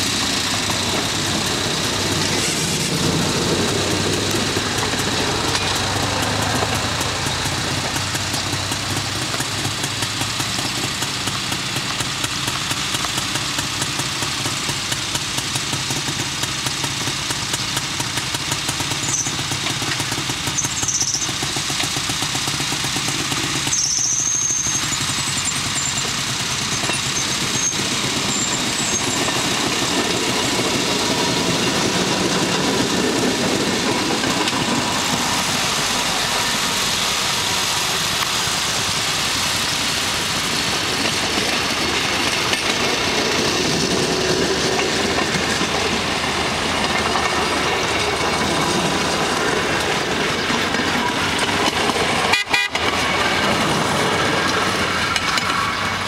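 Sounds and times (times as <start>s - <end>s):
small gasoline engines puttering: 0.0s - 56.0s.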